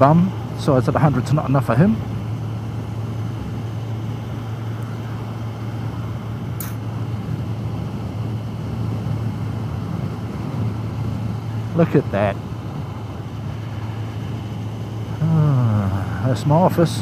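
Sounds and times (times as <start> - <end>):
motorcycle engine droning: 0.0 - 17.0
road and wind noise: 0.0 - 17.0.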